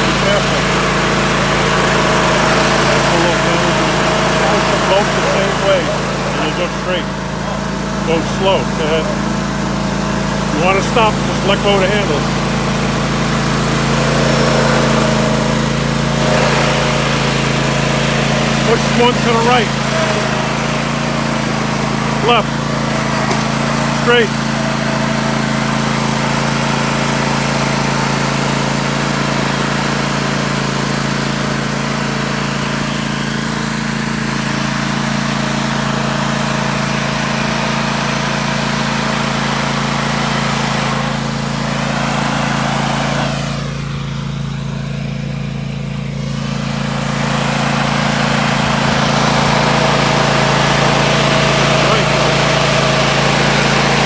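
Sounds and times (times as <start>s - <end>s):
riding lawn mower engine running: 0.0s - 54.0s.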